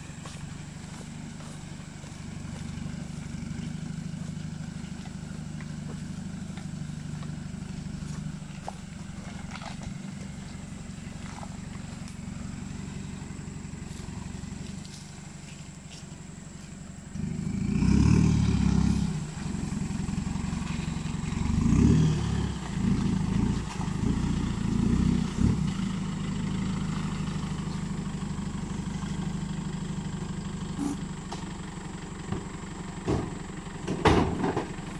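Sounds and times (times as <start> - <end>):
pickup truck engine revving: 0.0 - 31.3.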